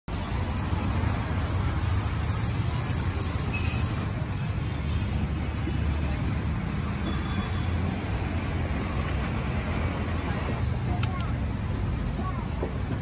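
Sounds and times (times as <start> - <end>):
low rumble of street traffic: 0.1 - 13.0.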